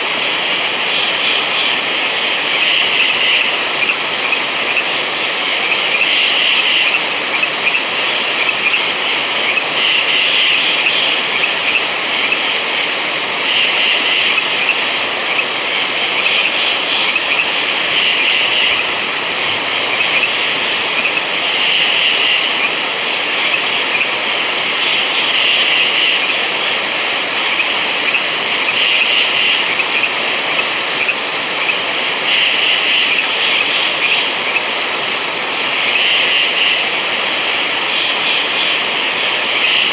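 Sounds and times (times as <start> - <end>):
frogs calling in chorus: 0.2 - 34.9, 35.6 - 39.9.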